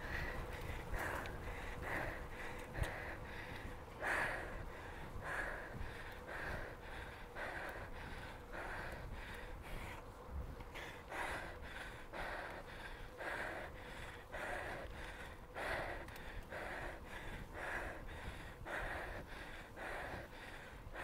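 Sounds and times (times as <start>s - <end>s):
cyclist breathing hard: 0.0s - 21.0s
low wind: 0.0s - 21.0s.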